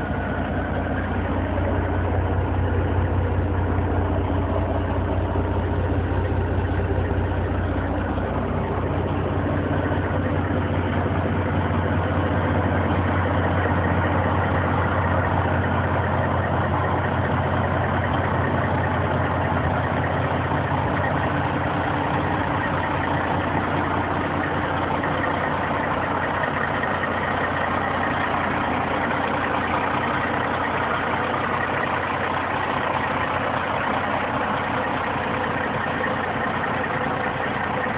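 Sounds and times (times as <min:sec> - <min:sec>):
diesel truck engine idling: 0:00.0 - 0:37.9.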